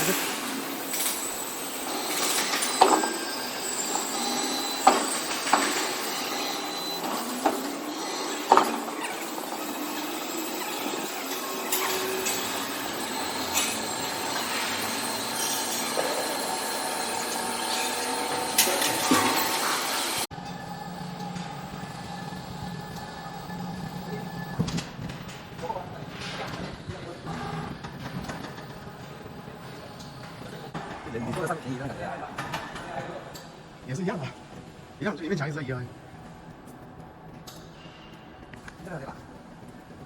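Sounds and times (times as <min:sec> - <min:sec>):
floor grinder whining: 0:00.0 - 0:32.3.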